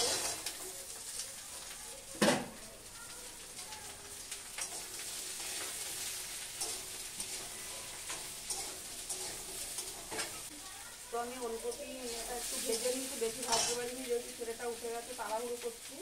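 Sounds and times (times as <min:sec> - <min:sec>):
spatula scraping a wok: 0:00.0 - 0:01.8, 0:03.3 - 0:10.6, 0:11.4 - 0:15.2
vegetables sizzling in hot oil: 0:00.0 - 0:16.0.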